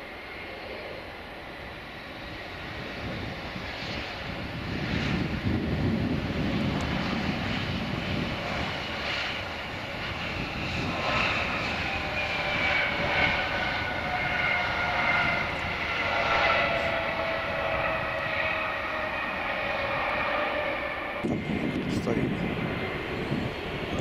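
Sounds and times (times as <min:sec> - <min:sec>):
jet engine rumble: 0:00.0 - 0:24.0
jet engine whine falling in pitch: 0:00.0 - 0:24.0.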